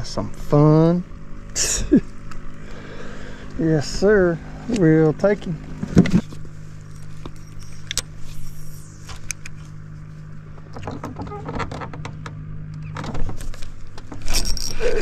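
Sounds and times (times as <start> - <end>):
small motor humming: 1.6 - 15.0.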